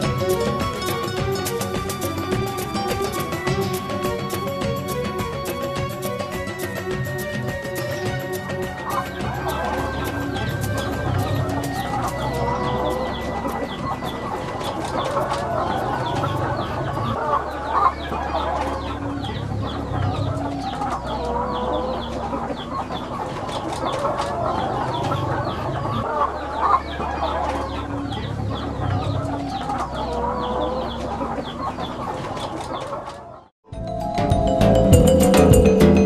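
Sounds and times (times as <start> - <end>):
hens clucking: 0.0 - 33.5.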